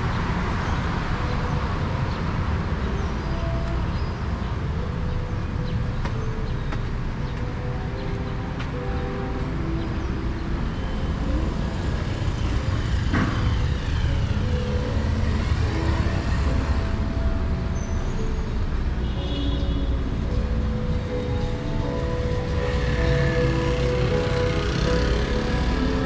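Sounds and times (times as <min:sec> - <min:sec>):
passing car and scooter engines: 0:00.0 - 0:26.0.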